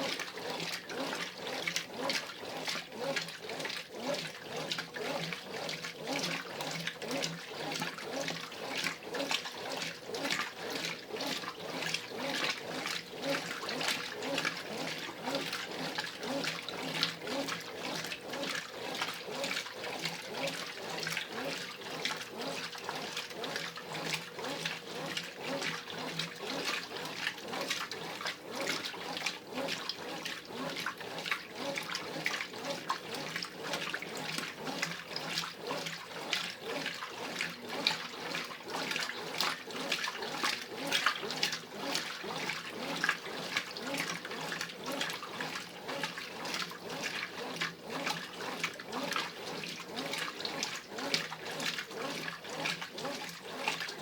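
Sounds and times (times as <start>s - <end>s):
washing machine water sloshing: 0.0s - 54.0s.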